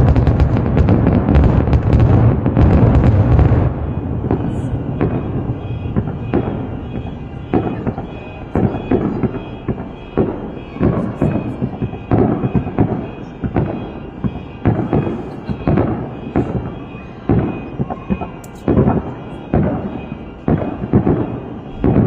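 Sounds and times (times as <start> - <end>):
continuous rumble: 0.0 - 22.0
fireworks booming: 0.0 - 22.0.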